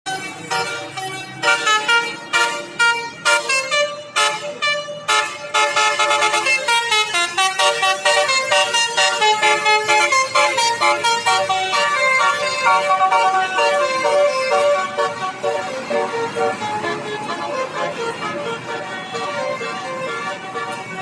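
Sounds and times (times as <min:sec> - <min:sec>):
multi-tone bus horn melody: 0:00.1 - 0:21.0.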